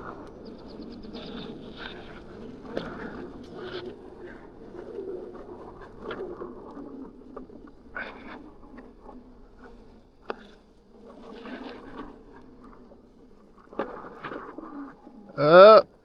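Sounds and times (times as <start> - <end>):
tyres rolling on dirt trail: 0.0 - 15.9.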